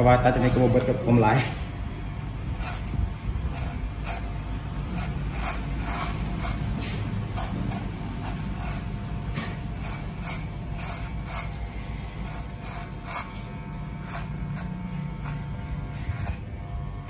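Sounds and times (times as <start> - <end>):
hair clipper motor humming: 0.0 - 17.0
clipper rasping through hair: 2.2 - 17.0.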